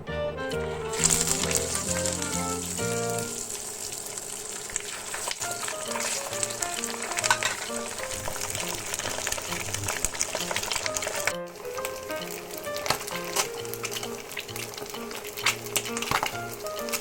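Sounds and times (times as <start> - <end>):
background music: 0.0 - 3.5, 5.4 - 17.0
fish frying in hot fat: 0.8 - 17.0.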